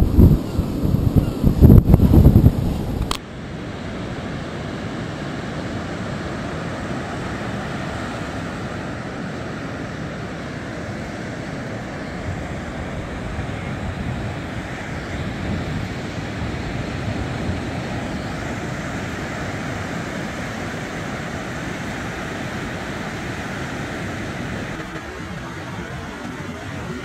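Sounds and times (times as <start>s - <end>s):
breaking surf: 0.0s - 27.0s
wind buffeting microphone: 0.0s - 27.0s.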